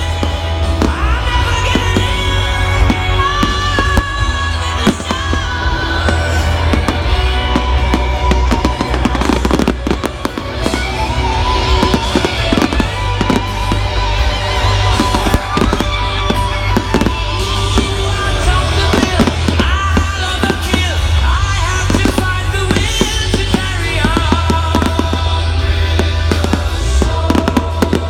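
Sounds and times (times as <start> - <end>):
fireworks bangs and crackles: 0.0 - 28.0
loud music: 0.0 - 28.0.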